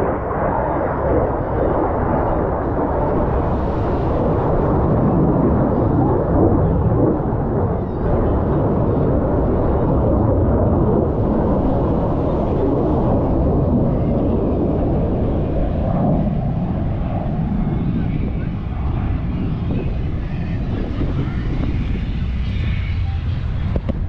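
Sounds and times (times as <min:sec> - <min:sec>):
aircraft engine roar overhead: 0:00.0 - 0:24.0.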